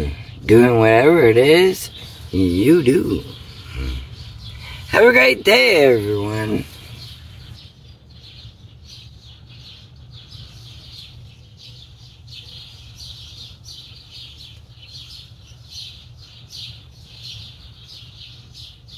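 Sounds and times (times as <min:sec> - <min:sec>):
birds chirping and singing: 0:00.0 - 0:18.9
steady low hum: 0:00.0 - 0:18.9.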